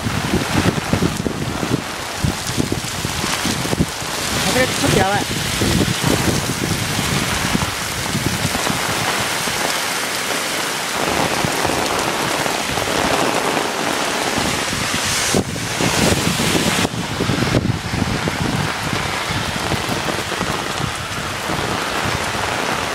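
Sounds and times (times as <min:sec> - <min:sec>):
heavy rain pouring: 0:00.0 - 0:22.9
strong gusty wind: 0:00.0 - 0:22.9.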